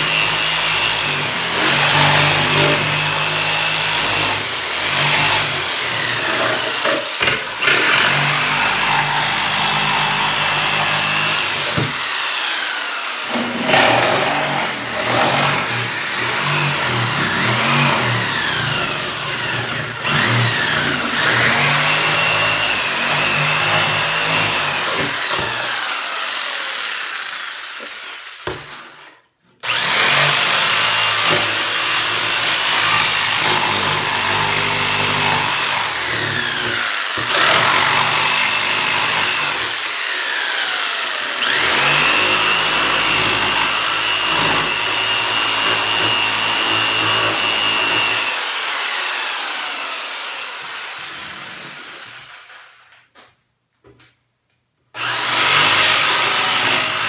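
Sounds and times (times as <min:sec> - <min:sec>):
jigsaw cutting plywood: 0:00.0 - 0:53.1, 0:54.9 - 0:57.0.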